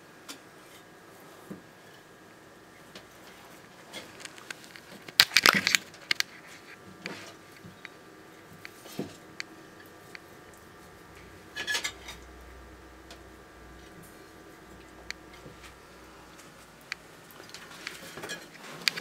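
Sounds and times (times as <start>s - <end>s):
lizard chewing with cracking crunches: 2.9s - 19.0s.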